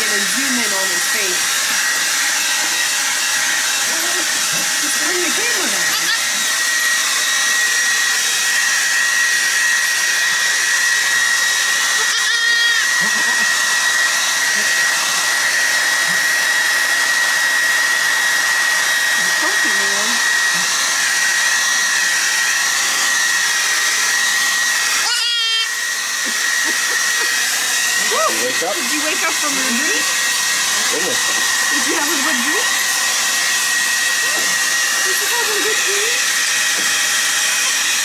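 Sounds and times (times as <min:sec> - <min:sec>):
hair dryer blowing: 0:00.0 - 0:38.0.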